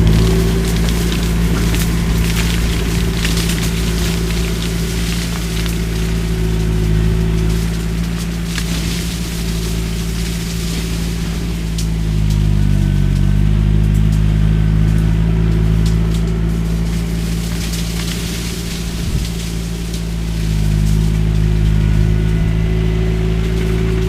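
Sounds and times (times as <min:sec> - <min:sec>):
shredder cracking cane: 0:00.0 - 0:24.0
skid steer engine running: 0:00.0 - 0:24.0.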